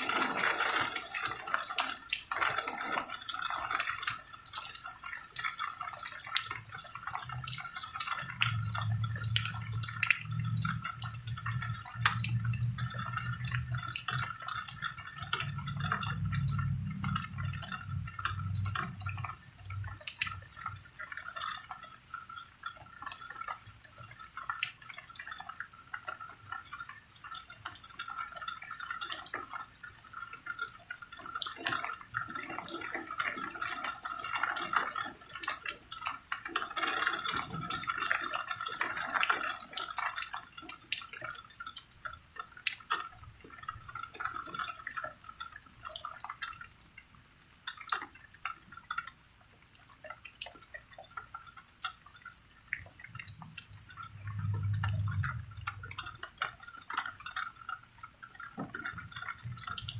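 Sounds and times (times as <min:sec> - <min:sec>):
rain drips and splatters: 0:00.0 - 0:59.9.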